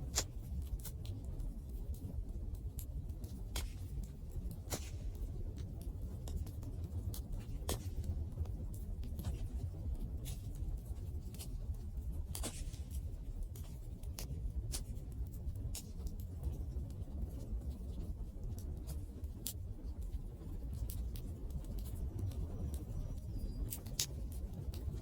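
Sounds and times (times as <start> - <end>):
low rumble of fire: 0.0 - 25.0.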